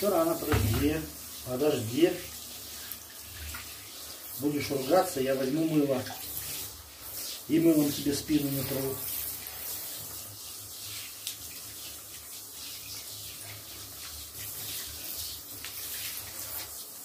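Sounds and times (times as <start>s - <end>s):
water splashing into tub: 0.0s - 16.8s
shower water spraying: 0.0s - 17.0s.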